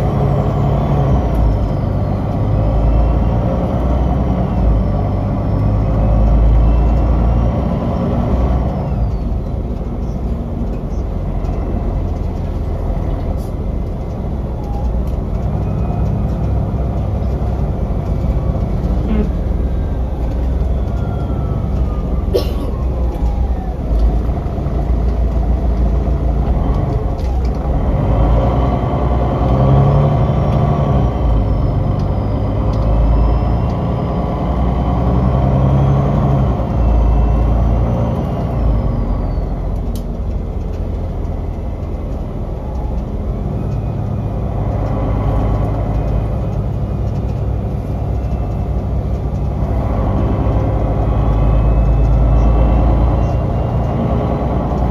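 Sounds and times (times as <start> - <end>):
bus diesel engine: 0.0 - 54.9
road noise: 0.0 - 54.9.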